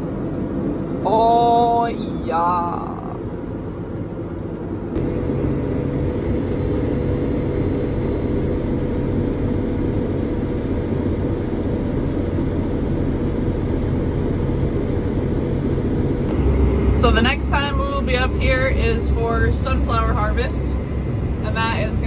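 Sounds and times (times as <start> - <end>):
machinery humming: 0.0 - 22.0.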